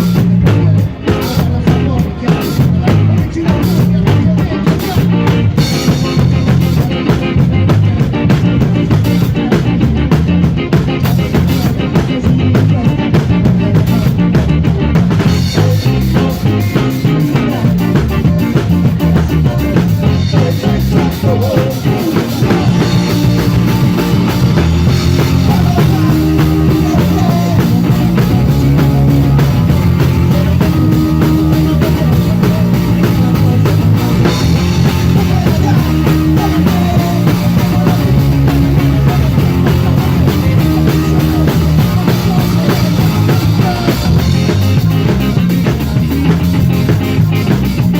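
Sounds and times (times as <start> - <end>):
drum kit beat: 0.0 - 47.9
rock band playing live: 0.0 - 47.9.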